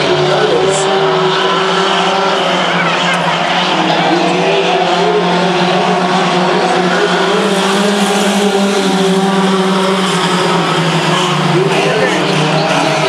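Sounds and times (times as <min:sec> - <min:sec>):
racing truck engines: 0:00.0 - 0:13.0.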